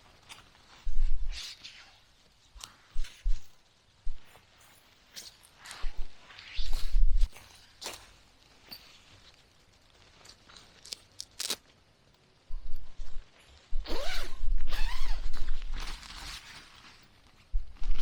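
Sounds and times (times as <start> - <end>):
crunching and rustling: 0.0 - 14.2, 14.8 - 18.0.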